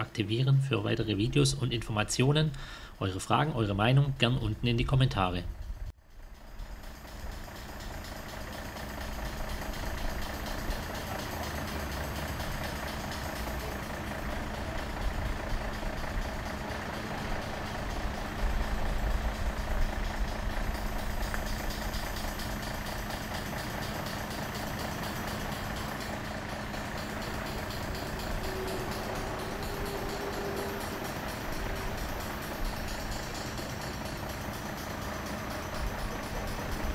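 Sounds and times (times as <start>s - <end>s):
diesel truck engine rumbling: 0.0s - 36.9s.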